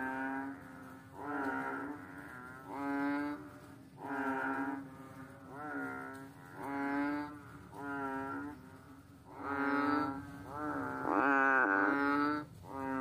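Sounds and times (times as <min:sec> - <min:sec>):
frog calling: 0:00.0 - 0:13.0.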